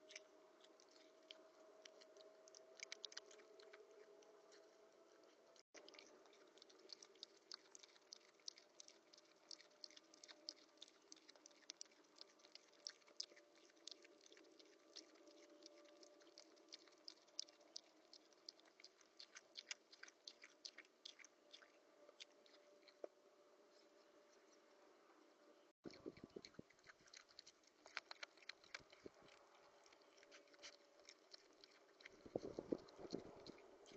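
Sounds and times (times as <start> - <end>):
rodent chewing seeds: 0.0 - 24.8, 25.8 - 33.9.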